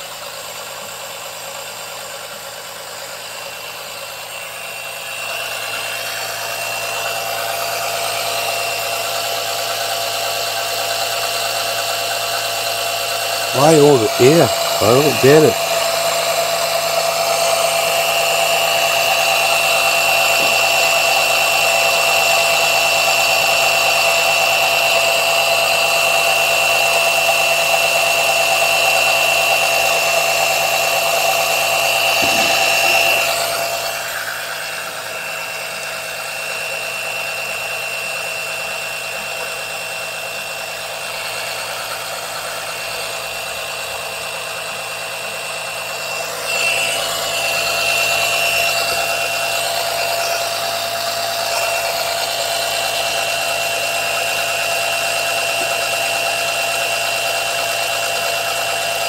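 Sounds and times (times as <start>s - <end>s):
electric suction pump whining: 2.6s - 59.0s.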